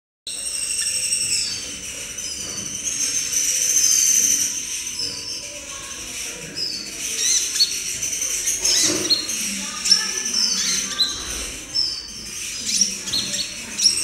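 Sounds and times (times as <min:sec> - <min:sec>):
young bird twittering: 0:00.3 - 0:14.0.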